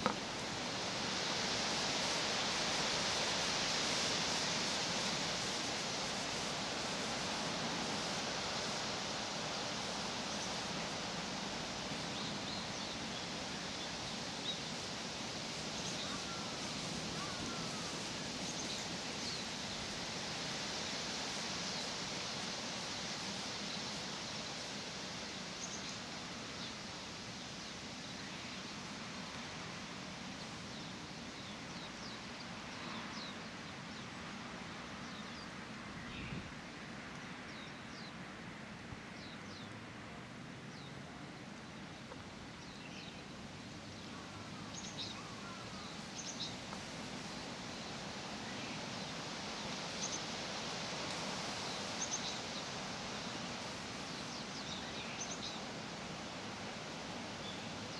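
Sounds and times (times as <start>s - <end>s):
leaves rustling in wind: 0.0s - 57.9s.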